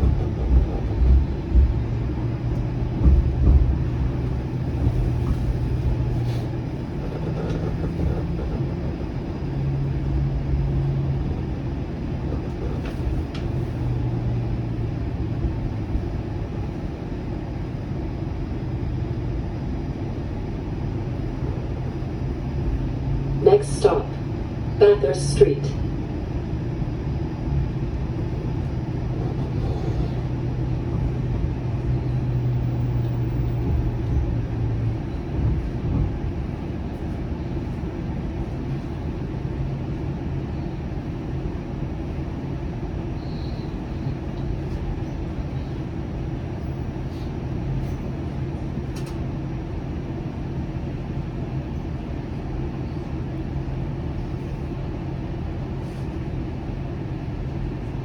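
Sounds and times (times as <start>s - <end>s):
streetcar hum: 0.0s - 58.0s
streetcar wheels rumbling: 0.0s - 58.0s.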